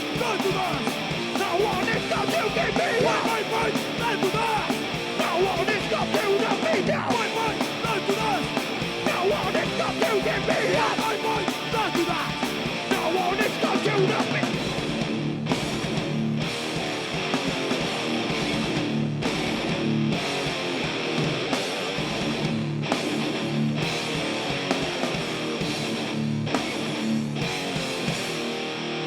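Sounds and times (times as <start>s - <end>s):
distorted guitars: 0.0s - 29.0s
live punk metal band: 0.0s - 29.0s.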